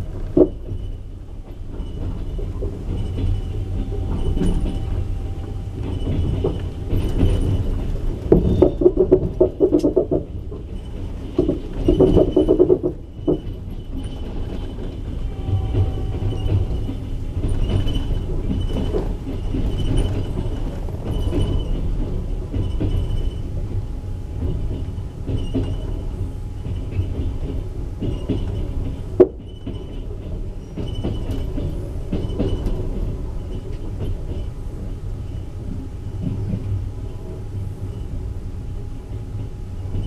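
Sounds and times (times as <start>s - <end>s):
train wheels rumbling on rails: 0.0s - 40.0s
wheels clacking over rail joints: 0.0s - 40.0s.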